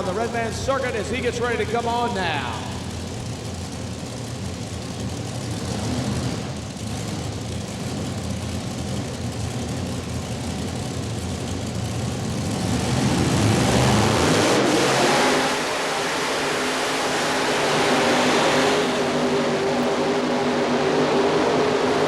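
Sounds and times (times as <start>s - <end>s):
tractor engine at low revs: 0.0s - 22.0s.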